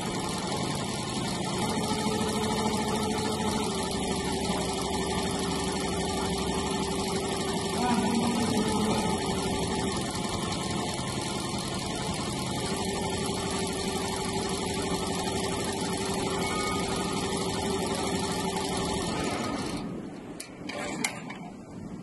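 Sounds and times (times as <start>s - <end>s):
embroidery machine stitching: 0.0s - 21.5s.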